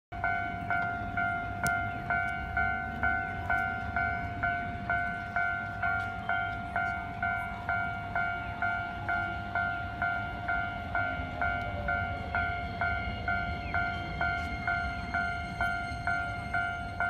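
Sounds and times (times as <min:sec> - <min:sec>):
level crossing warning bell ringing: 0:00.1 - 0:17.0.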